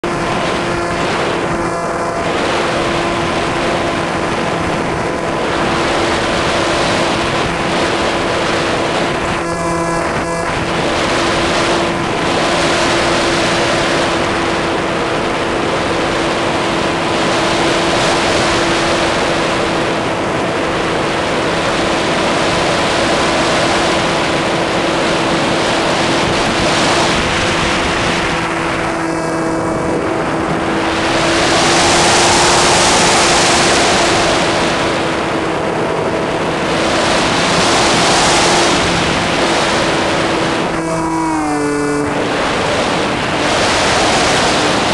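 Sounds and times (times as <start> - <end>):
electric motor and propeller whining: 0.0 - 44.9
wind rush on microphone: 0.0 - 44.9.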